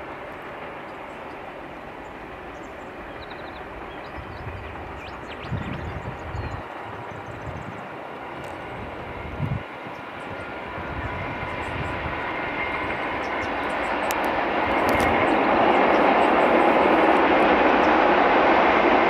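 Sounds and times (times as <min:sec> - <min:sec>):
diesel locomotive engines droning: 0:00.0 - 0:19.0.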